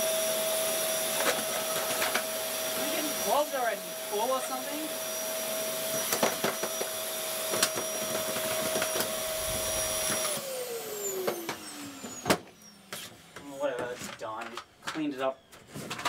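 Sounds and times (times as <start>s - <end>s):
vacuum motor whining: 0.0s - 13.8s.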